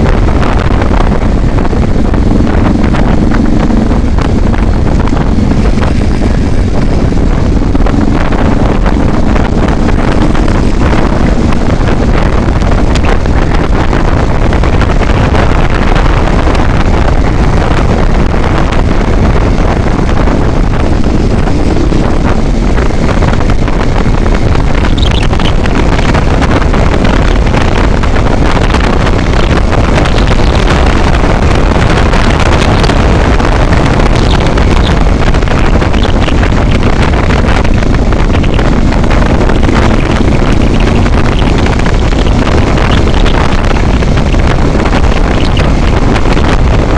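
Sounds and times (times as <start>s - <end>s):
vehicle driving on highway: 0.0s - 46.9s
wind buffeting microphone: 0.0s - 46.9s.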